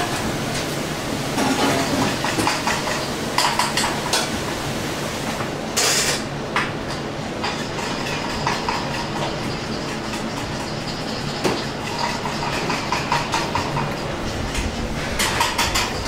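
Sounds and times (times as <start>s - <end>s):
steady kitchen roar: 0.0s - 16.0s.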